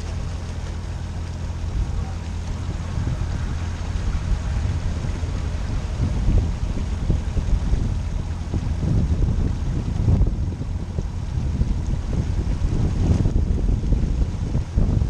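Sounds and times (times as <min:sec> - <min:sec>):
boat engine rumble: 0:00.0 - 0:15.0
boat wash: 0:00.0 - 0:15.0
wind on microphone: 0:00.0 - 0:15.0.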